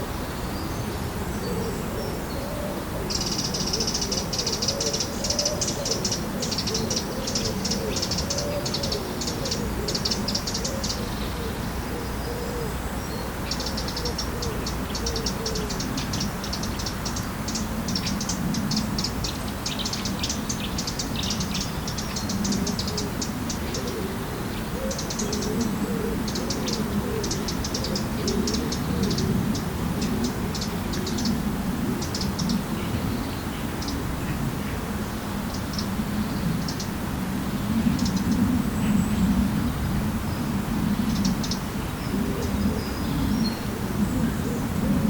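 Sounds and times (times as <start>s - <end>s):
birds chittering: 0.0s - 37.0s, 37.6s - 45.0s
lower wavering bird calls: 0.0s - 45.0s.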